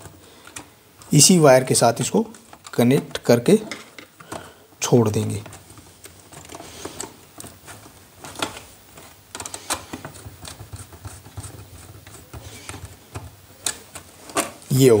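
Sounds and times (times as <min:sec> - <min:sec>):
wires clicking and scraping: 0:00.0 - 0:15.0.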